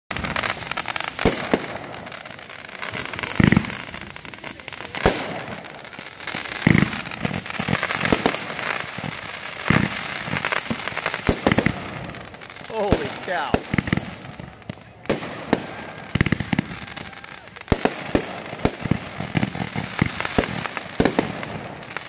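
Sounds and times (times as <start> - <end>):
fireworks crackling: 0.1 - 22.0
fireworks launches and bursts: 0.1 - 22.0
heavy firework bangs: 0.1 - 22.0.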